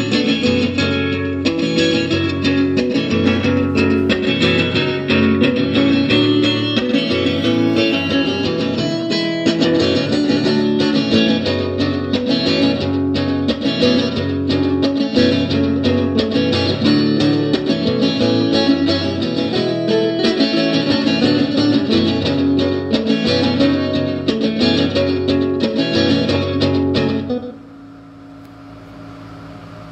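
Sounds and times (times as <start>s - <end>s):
guitar with quick plucked notes: 0.0s - 27.6s.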